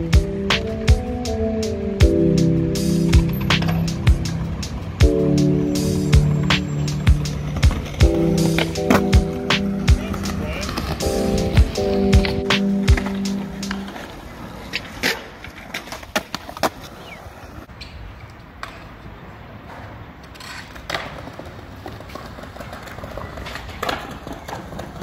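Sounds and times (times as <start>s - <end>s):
skateboard tails clacking: 0.0s - 25.0s
skateboard wheels rolling on concrete: 0.0s - 25.0s.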